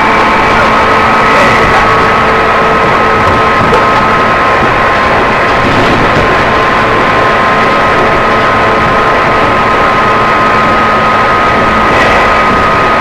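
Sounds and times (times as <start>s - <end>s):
traction motor whine: 0.0s - 13.0s
train rolling noise: 0.0s - 13.0s.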